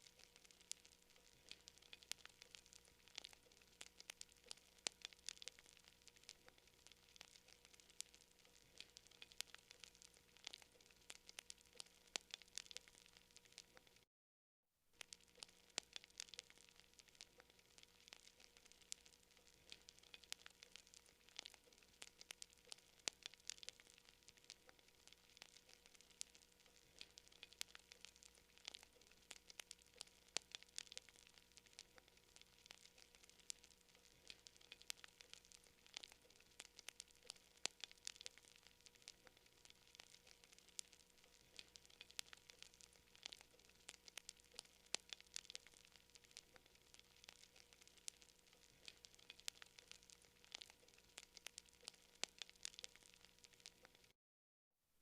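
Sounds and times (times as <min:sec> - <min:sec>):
campfire crackling and popping: 0:00.0 - 0:14.1, 0:15.0 - 0:54.2.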